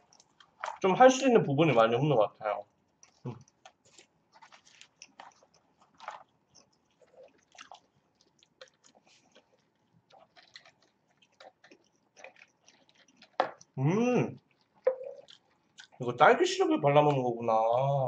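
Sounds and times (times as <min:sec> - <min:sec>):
chewing and biting food: 0:00.0 - 0:01.2, 0:02.7 - 0:16.1.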